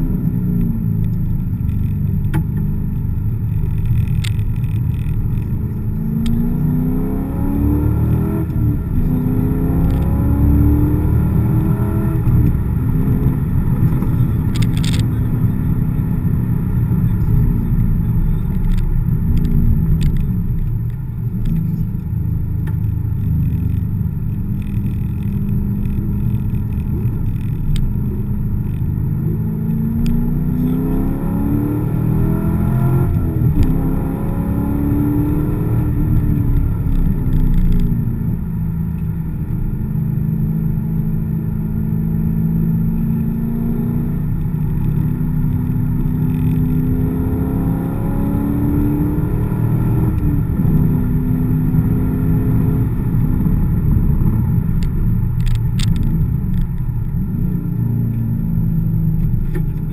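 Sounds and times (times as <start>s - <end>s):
car engine accelerating: 0.0s - 59.9s
tyre and road noise: 0.0s - 59.9s.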